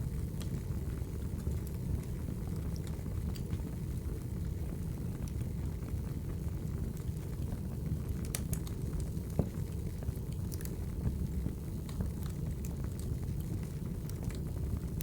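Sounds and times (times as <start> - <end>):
fire crackles and pops: 0.0 - 15.0
wood fire rumbling: 0.0 - 15.0.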